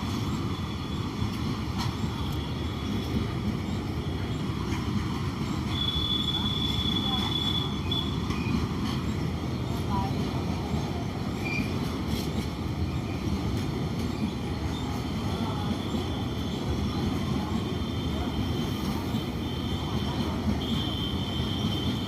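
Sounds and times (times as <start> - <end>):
diesel locomotive engine humming: 0.0 - 22.0.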